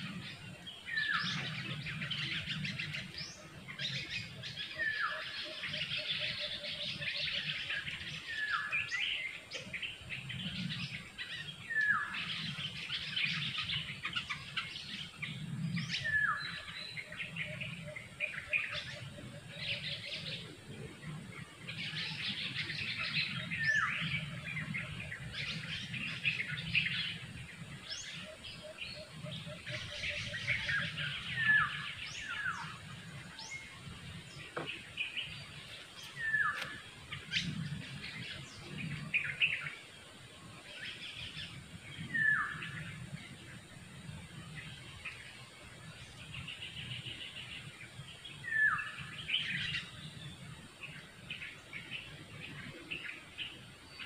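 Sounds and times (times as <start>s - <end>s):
high chattering birdsong: 0.0s - 54.0s.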